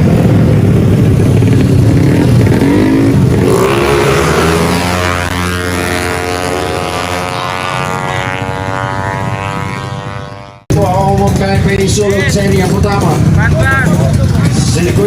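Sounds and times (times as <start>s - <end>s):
scooter engines revving high: 0.0s - 15.0s.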